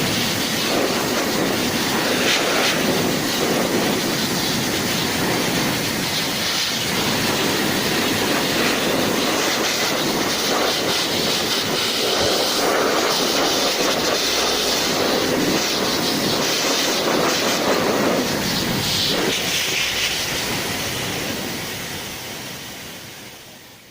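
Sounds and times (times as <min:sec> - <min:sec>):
hair dryer running: 0:00.0 - 0:22.3.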